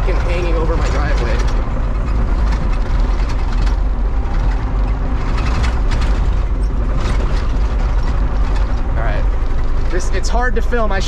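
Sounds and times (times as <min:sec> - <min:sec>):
clanks and rattles: 0:00.0 - 0:11.0
diesel engine droning: 0:00.0 - 0:11.0.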